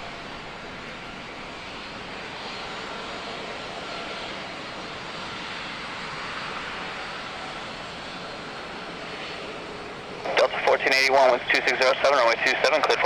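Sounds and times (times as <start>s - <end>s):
faint engine whine: 0.0s - 13.0s
jet airliner engines running: 0.0s - 13.0s.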